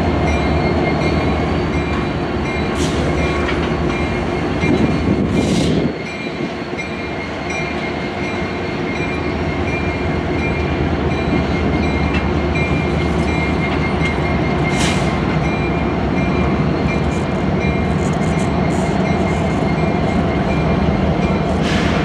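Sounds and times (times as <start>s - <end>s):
locomotive engine rumble: 0.0s - 22.0s.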